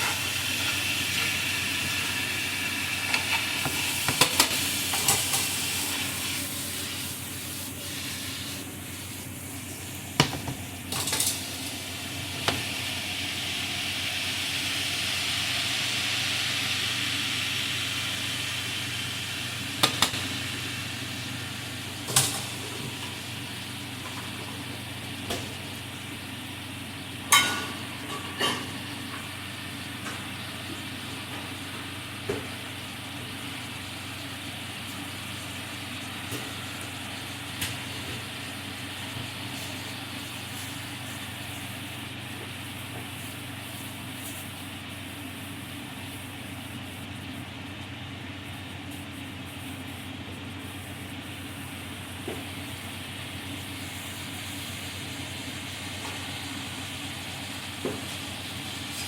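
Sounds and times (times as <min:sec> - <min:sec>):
food sizzling in frying pan: 0:00.0 - 0:59.0.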